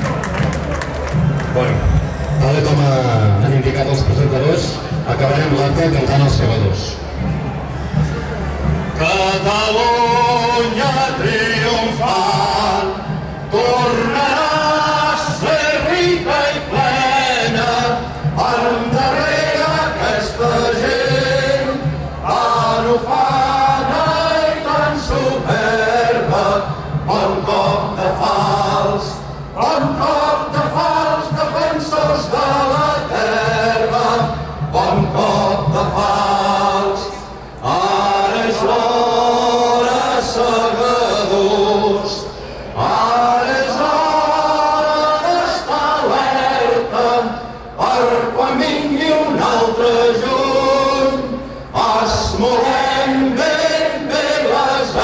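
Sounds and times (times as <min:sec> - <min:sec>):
crowd singing together: 0:00.0 - 0:55.0.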